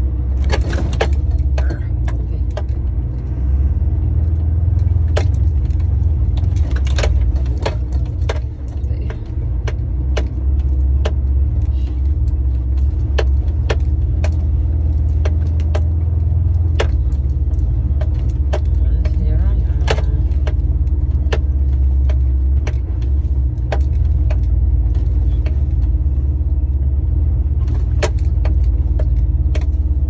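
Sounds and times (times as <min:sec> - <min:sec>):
clicks and rattles in cab: 0:00.0 - 0:03.4, 0:04.0 - 0:30.0
diesel engine rumble: 0:00.0 - 0:30.0.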